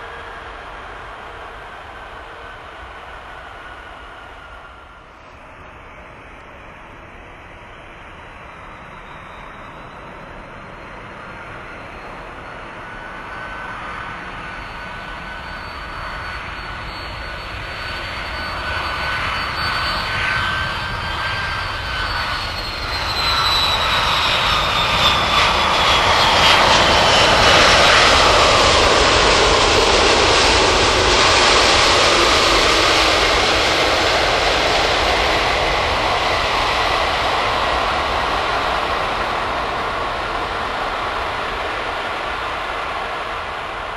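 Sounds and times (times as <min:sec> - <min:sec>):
jet airliner passing overhead: 0:00.0 - 0:43.9.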